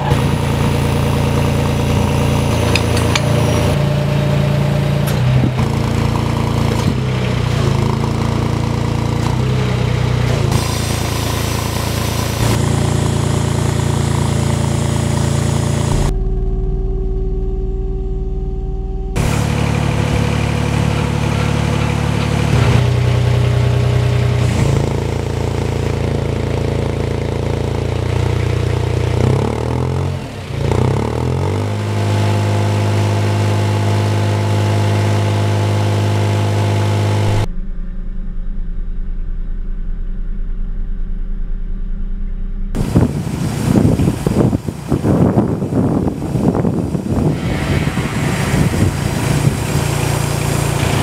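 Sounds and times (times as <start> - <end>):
crane engine running: 0.0 - 51.0.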